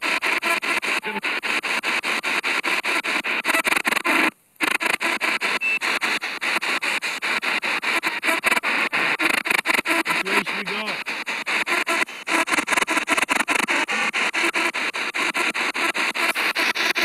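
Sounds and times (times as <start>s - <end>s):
choppy radio static and fragments: 0.0s - 17.0s.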